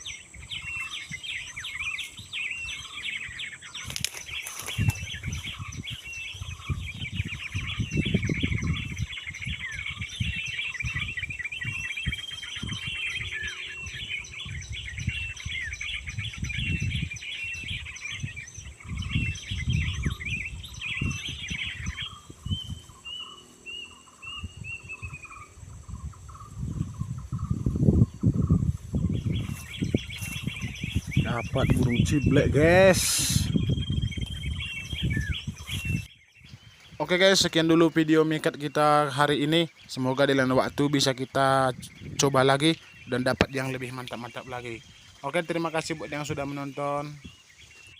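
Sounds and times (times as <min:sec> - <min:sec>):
songbirds chirping and twittering: 0:00.0 - 0:47.9.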